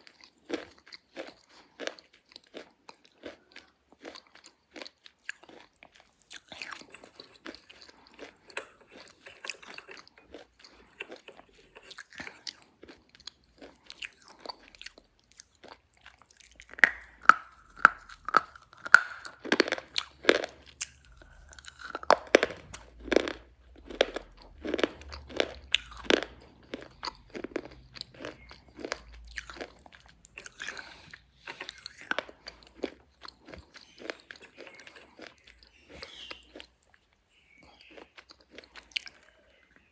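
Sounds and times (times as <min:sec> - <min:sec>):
slate pencils being chewed: 0:00.0 - 0:39.9.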